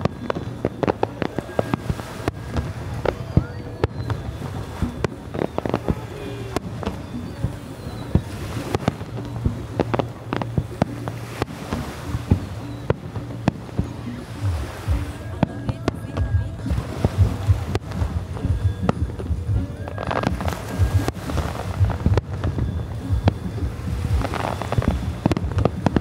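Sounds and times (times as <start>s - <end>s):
fireworks bangs and crackles: 0.0s - 26.0s
music playing: 0.0s - 26.0s.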